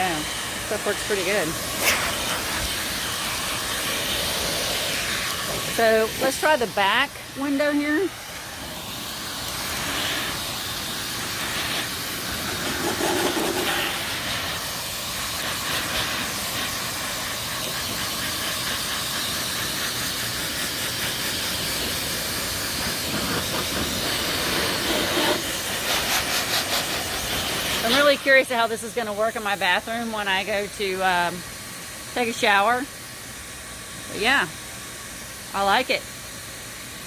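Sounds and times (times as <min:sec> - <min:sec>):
vacuum blowing air: 0:00.0 - 0:37.0.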